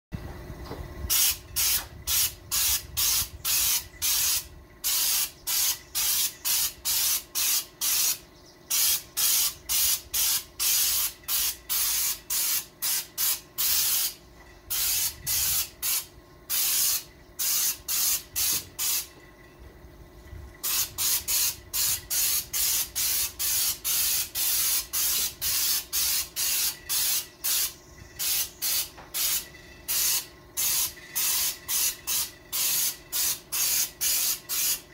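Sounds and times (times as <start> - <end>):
faint steady hum: 0.2 - 34.9
spray gun hissing bursts: 1.1 - 19.1, 20.6 - 34.9.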